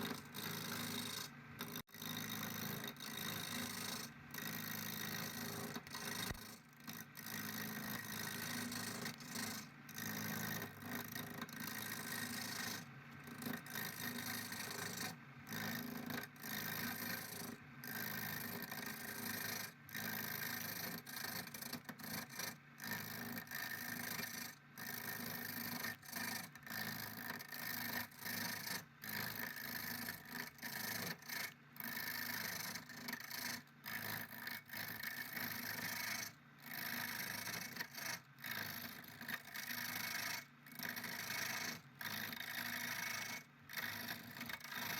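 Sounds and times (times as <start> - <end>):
tool scraping a surface: 0.0 - 44.9.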